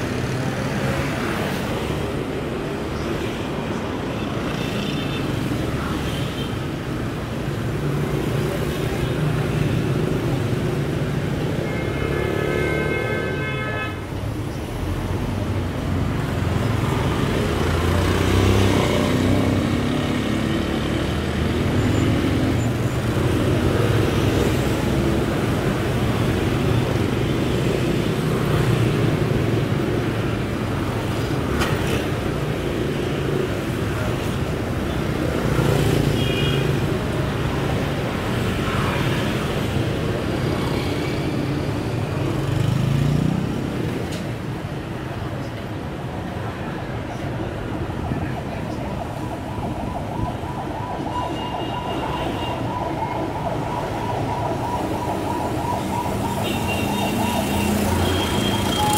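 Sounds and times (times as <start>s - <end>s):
road traffic passing: 0.0s - 58.9s.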